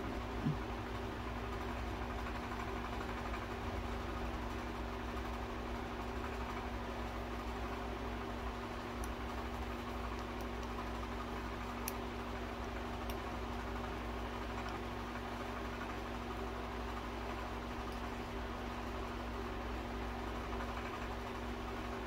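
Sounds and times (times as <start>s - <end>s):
room hum and hiss: 0.0s - 22.0s.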